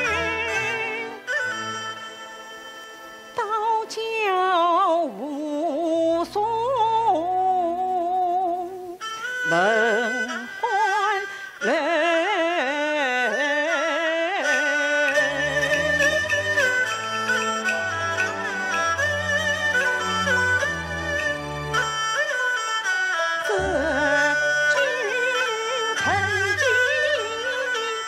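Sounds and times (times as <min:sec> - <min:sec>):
opera singing with vibrato: 0:00.0 - 0:02.0, 0:03.3 - 0:21.6, 0:23.4 - 0:28.0
traditional instrumental accompaniment: 0:00.0 - 0:28.0.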